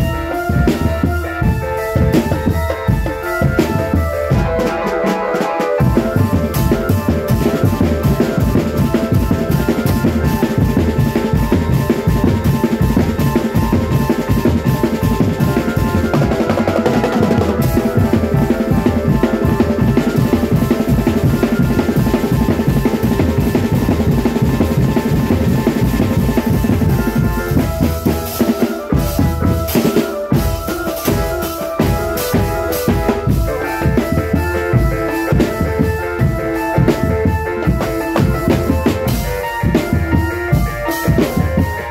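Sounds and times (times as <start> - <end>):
snare and bass drum beats: 0.0 - 41.9
sustained melody: 0.0 - 41.9.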